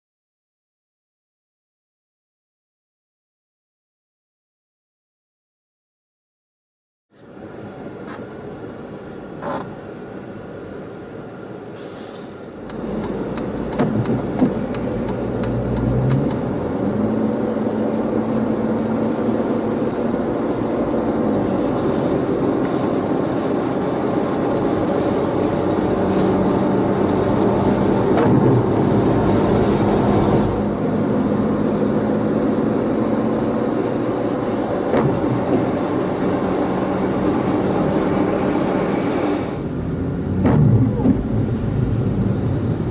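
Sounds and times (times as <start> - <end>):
road noise: 7.1 - 42.9
car engine driving: 7.2 - 42.9.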